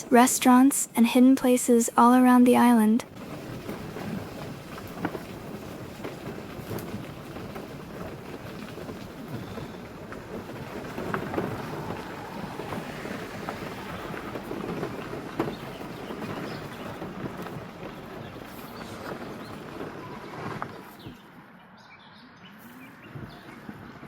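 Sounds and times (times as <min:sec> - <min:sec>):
car tyre and road rumble: 0:03.1 - 0:24.0.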